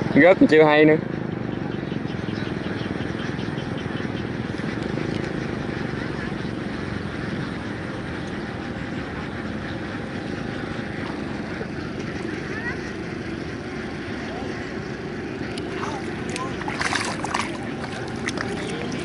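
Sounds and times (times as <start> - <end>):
tractor diesel engine running: 1.2 - 19.0.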